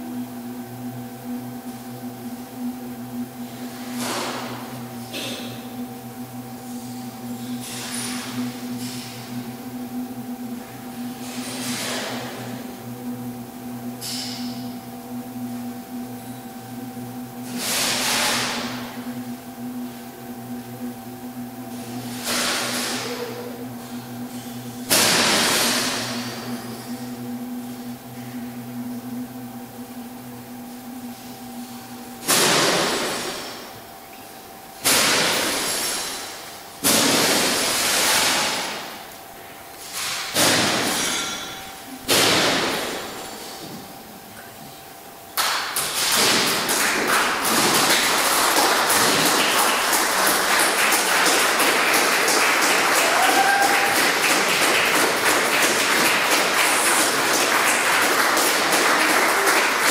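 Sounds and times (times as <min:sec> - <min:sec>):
low steady drone: 0:00.0 - 0:59.9.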